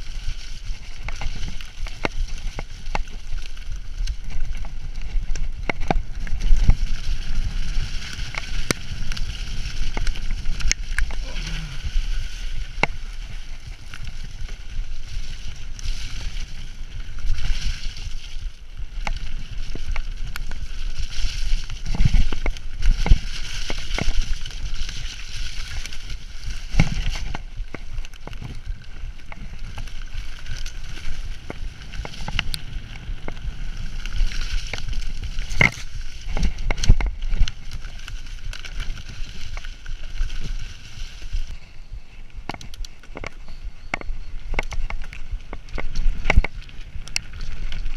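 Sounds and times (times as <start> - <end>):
bike knocking and rattling: 0.0 - 41.7, 42.4 - 47.9
bike tyres rolling through mud: 0.0 - 47.9
wind rumble on microphone: 0.0 - 47.9.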